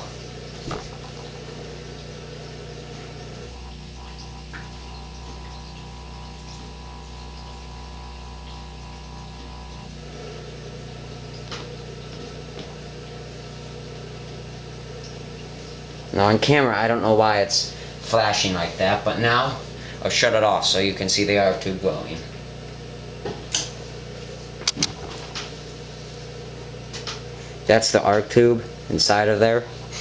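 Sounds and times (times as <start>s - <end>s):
floodlight electrical hum: 0.0s - 30.0s.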